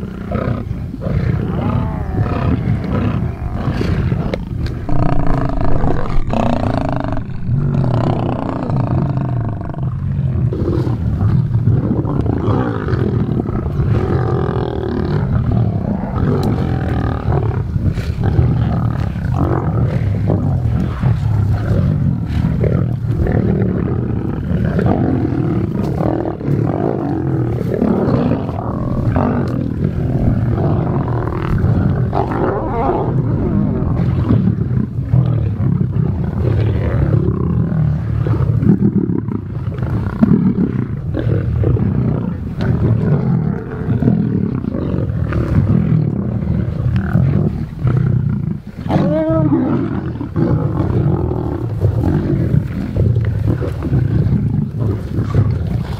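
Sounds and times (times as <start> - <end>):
lions growling: 0.0 - 55.9.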